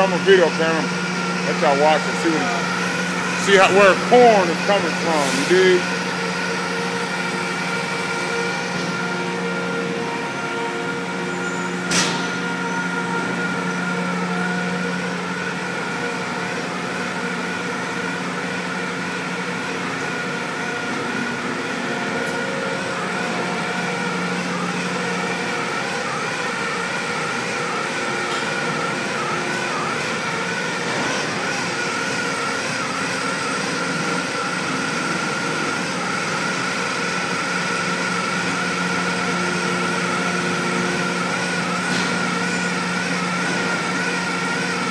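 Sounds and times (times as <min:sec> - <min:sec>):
conveyor machinery drone: 0:00.0 - 0:44.9
high wavering whine: 0:00.0 - 0:44.9.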